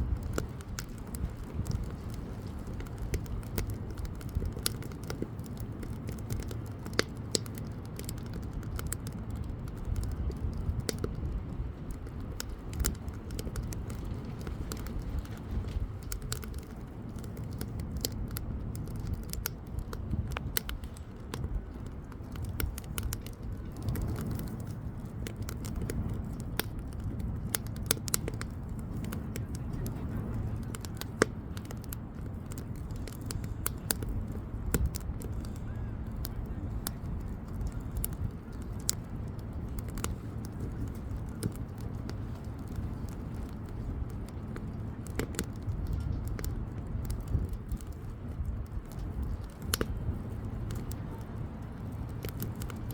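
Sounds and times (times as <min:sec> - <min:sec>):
bonfire crackles and pops: 0:00.0 - 0:52.9
fire low rumble: 0:00.0 - 0:52.9.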